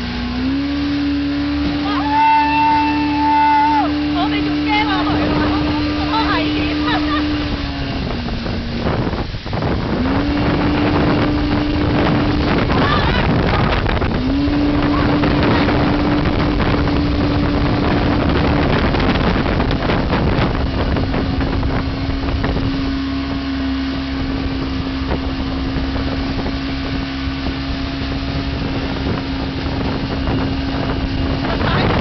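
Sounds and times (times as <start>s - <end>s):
motorboat engine running: 0.0s - 32.0s
rushing water: 0.0s - 32.0s
wind buffeting microphone: 0.0s - 32.0s.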